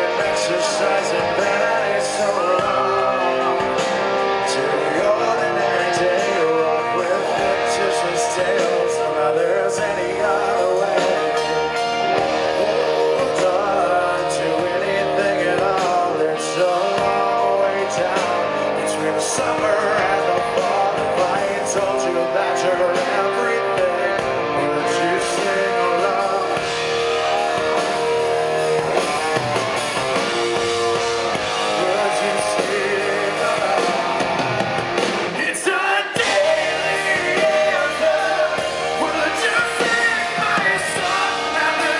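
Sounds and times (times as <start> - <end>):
male lead vocal: 0.0 - 41.9
rock band playing: 0.0 - 41.9
strummed guitar: 0.0 - 41.9.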